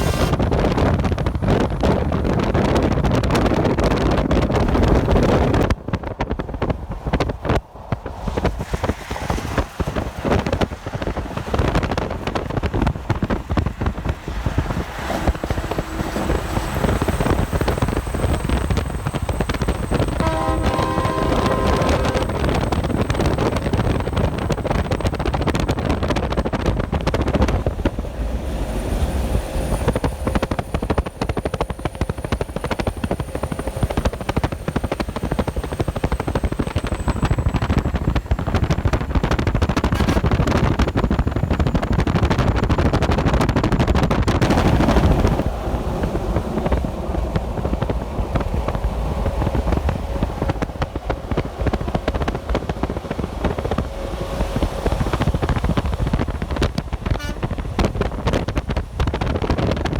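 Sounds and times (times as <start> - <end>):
diesel trucks passing on highway: 0.0 - 59.9.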